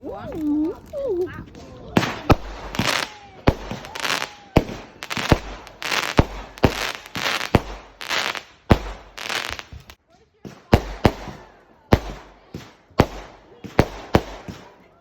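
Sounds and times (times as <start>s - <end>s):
fireworks crackling hiss: 0.4s - 14.8s
fireworks bangs: 1.4s - 15.0s.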